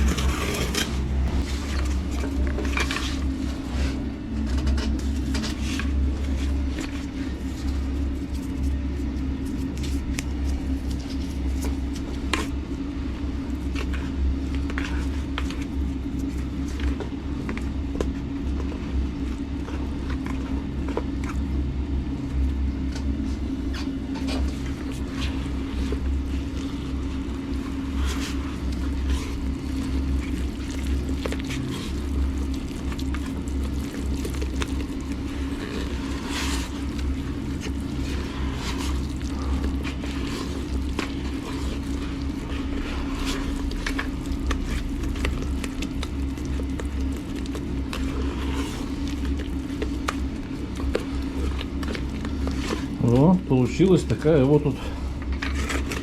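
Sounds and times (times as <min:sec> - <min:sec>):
stirring scrapes and clicks: 0:00.0 - 0:21.5, 0:22.8 - 0:56.0
low rumble and hum: 0:00.0 - 0:56.0.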